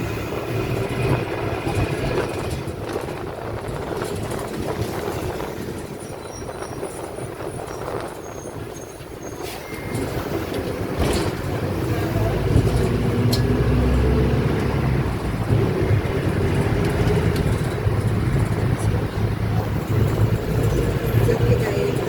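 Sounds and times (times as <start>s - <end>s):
bus differential droning: 0.0s - 22.0s
engine and road noise: 0.0s - 22.0s.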